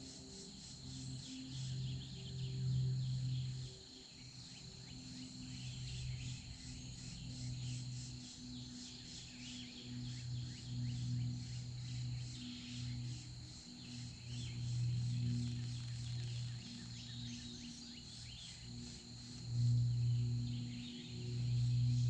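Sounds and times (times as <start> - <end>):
insects trilling: 0.0 - 22.0
low musical drone: 0.1 - 22.0.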